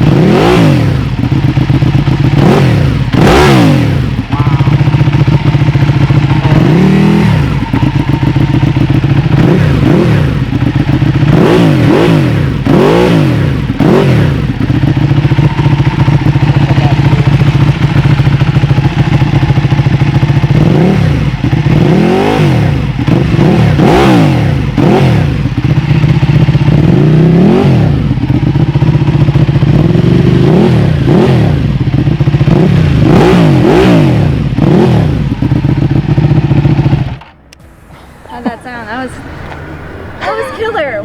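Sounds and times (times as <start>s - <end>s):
motorcycle engine idling and revving: 0.0s - 41.0s.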